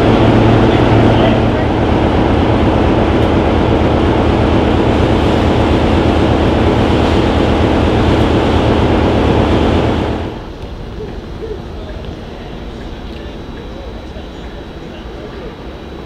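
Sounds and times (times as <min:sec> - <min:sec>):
diesel locomotive engine idling: 0:00.0 - 0:16.0.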